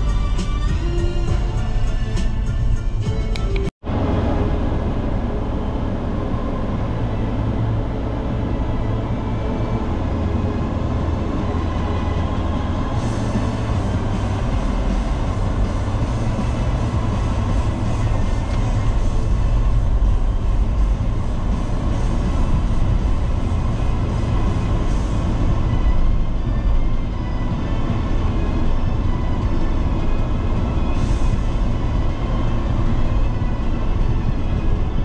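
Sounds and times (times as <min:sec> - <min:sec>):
car road and wind noise: 0:00.0 - 0:35.0.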